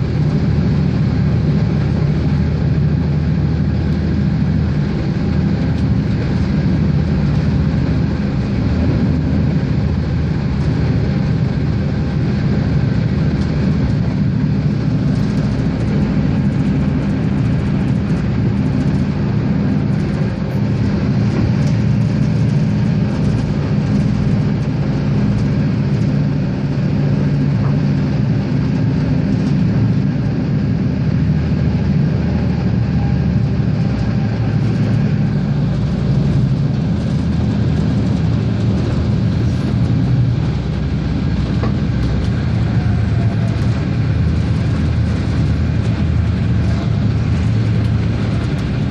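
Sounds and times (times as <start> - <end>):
diesel railcar engine drone: 0.0 - 48.9
wheel and rail noise: 0.0 - 48.9.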